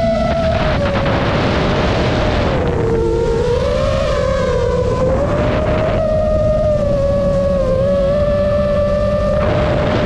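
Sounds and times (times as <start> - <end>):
drone motors whining: 0.0 - 10.0
rush of prop wash and wind: 0.0 - 10.0.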